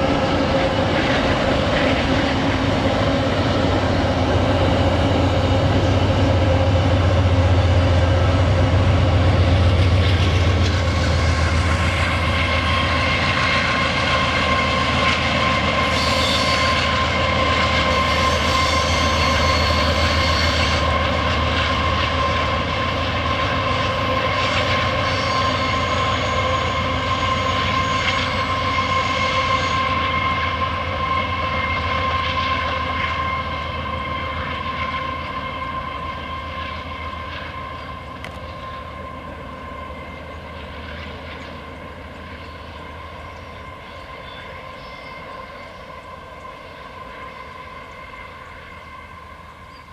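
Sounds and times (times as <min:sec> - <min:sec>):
locomotive engine rumble: 0:00.0 - 0:47.1
train wheel squeal: 0:00.0 - 0:49.9.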